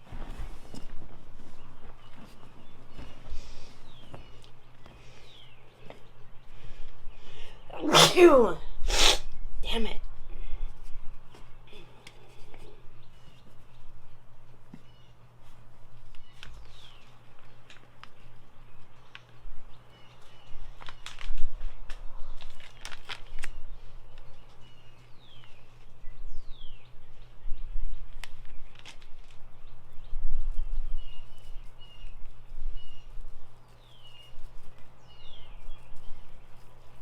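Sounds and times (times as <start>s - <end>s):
birds chirping: 0.0s - 8.6s, 9.2s - 21.2s, 23.5s - 28.7s, 29.5s - 37.0s.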